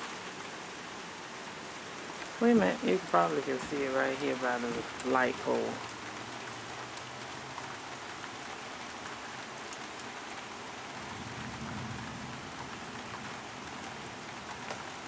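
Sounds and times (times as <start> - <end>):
rain shower hissing: 0.0 - 15.0.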